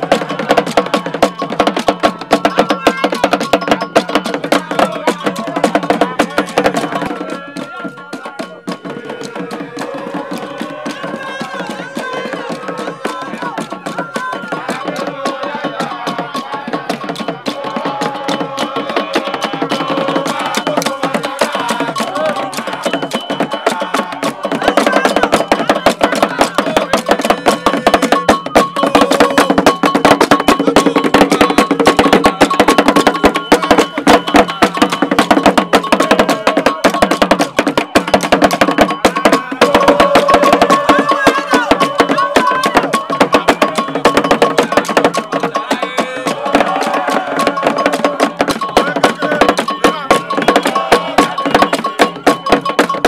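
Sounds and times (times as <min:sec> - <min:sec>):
crowd voices: 0:00.0 - 0:53.0
hand drums fast rhythm: 0:00.0 - 0:53.0.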